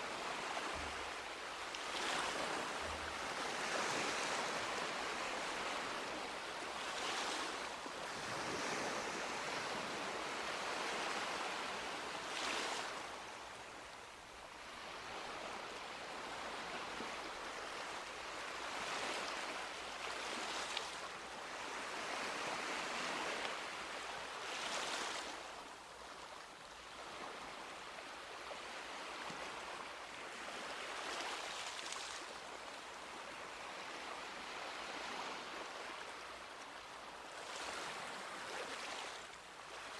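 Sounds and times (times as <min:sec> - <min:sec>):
waves washing up a beach: 0:00.0 - 0:39.9.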